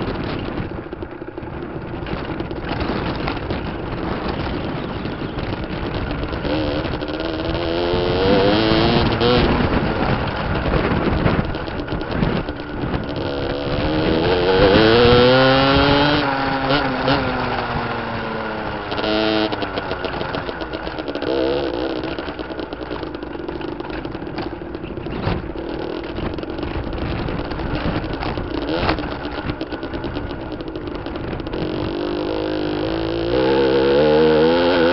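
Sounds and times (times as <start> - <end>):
two-stroke motorcycle engine revving: 0.0 - 34.9.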